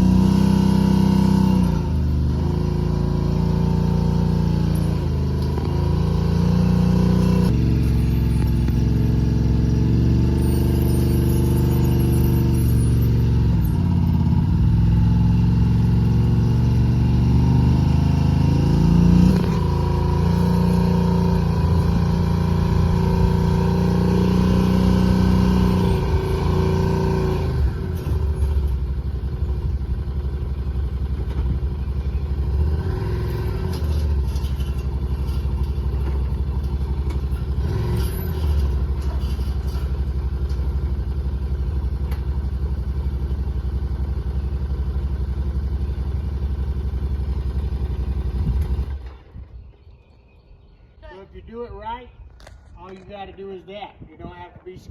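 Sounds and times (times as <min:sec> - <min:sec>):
vehicle engine pulling under load: 0:00.0 - 0:50.2.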